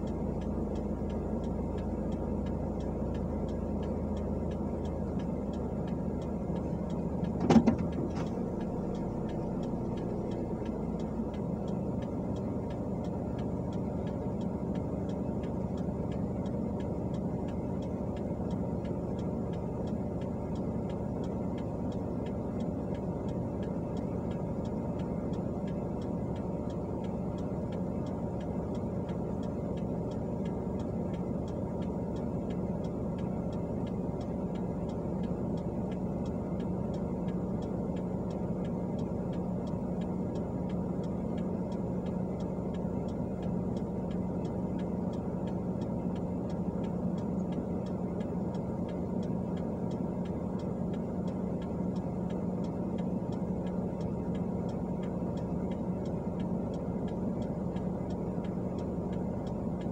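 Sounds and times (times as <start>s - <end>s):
car engine idling: 0.0s - 59.9s
turn signal ticking: 0.0s - 59.9s.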